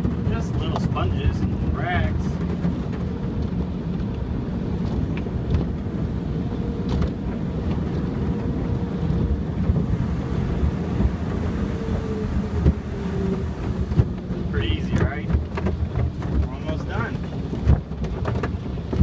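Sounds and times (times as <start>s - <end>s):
car wash brushes rumbling: 0.0s - 19.0s.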